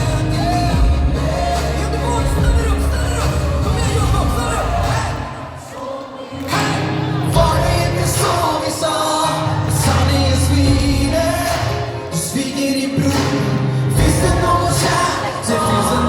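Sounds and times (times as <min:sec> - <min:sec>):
live band with heavy bass: 0:00.0 - 0:05.3, 0:06.5 - 0:16.0
person singing: 0:00.0 - 0:16.0.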